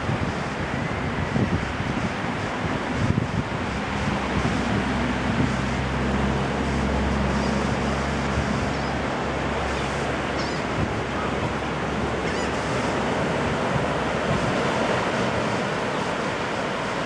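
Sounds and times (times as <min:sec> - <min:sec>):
small waves washing on sand: 0:00.0 - 0:17.0
wind on the microphone: 0:00.0 - 0:17.0.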